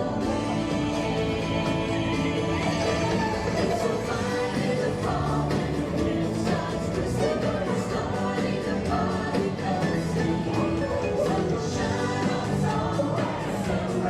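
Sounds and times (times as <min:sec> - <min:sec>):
parade music with choir singing: 0:00.0 - 0:14.0.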